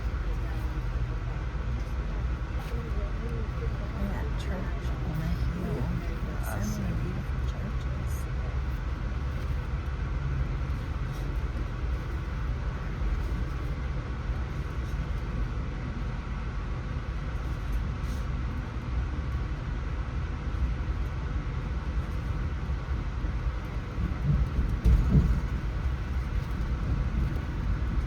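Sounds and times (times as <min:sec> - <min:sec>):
train rumbling from inside: 0:00.0 - 0:28.0.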